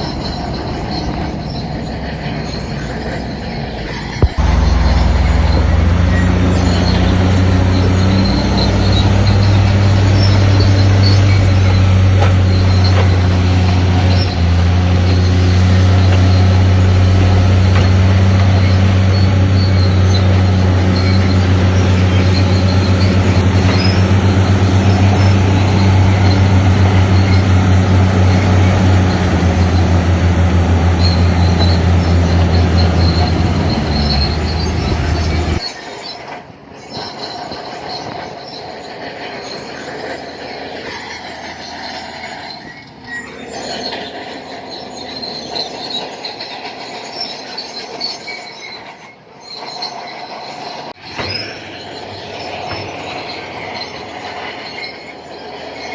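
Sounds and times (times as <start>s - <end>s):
bulldozer diesel engine running: 0.0s - 55.9s
steel tracks squealing: 0.0s - 55.9s.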